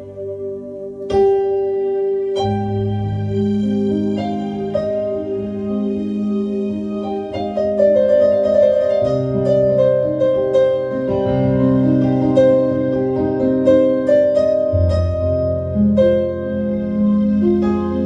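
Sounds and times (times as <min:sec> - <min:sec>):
solo piano: 0:00.0 - 0:18.0.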